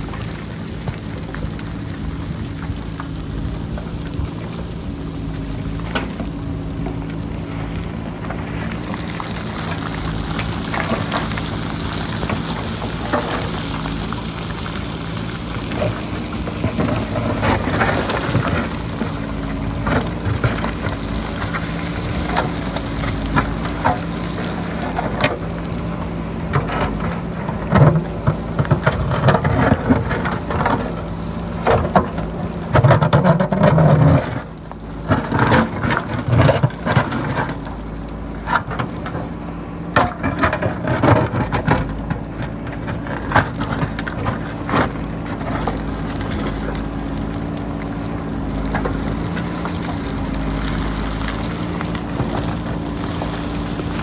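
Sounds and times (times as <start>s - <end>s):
diesel engine running: 0.0s - 54.0s
rocks knocking and clattering: 0.0s - 54.0s.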